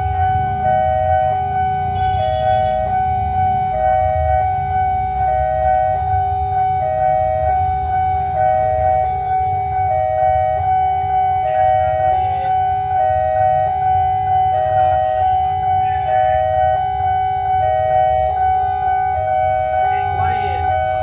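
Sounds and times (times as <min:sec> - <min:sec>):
level crossing two-note alarm: 0:00.0 - 0:21.0.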